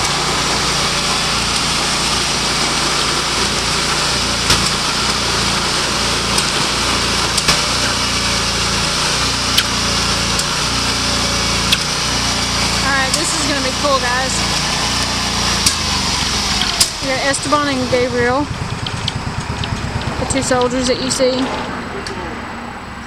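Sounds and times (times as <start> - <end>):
sawmill engine cutting log: 0.0 - 23.0.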